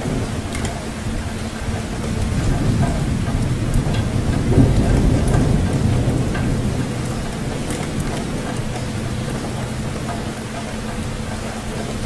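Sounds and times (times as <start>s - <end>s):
aquarium water churning: 0.0s - 12.0s
bubbles ticking: 0.0s - 12.0s.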